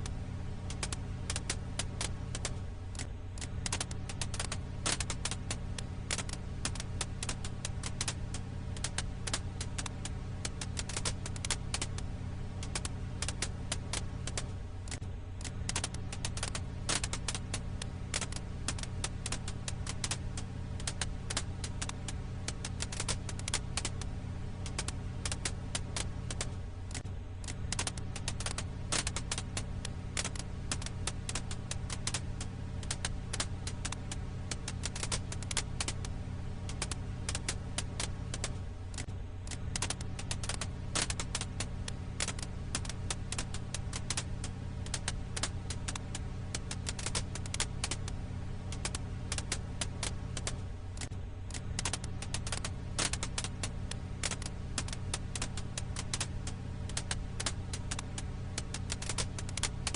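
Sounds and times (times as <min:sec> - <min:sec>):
firewood crackling and popping: 0:00.0 - 0:59.9
steady low hum: 0:00.0 - 0:59.9.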